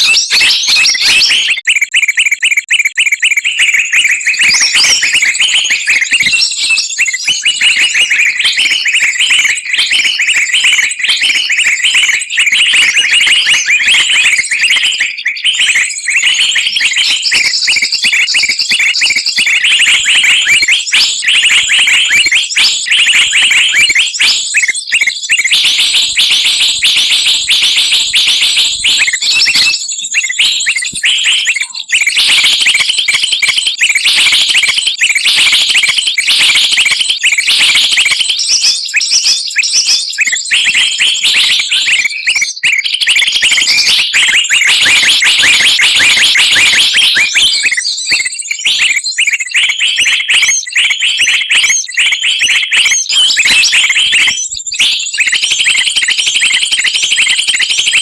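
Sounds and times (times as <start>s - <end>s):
songbirds chirping and calling: 0.0s - 58.0s.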